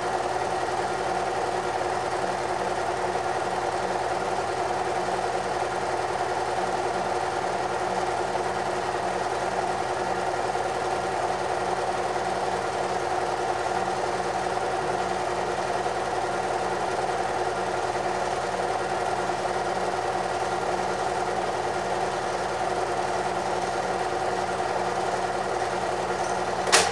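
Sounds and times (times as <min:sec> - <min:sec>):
film projector whirring: 0:00.0 - 0:26.9.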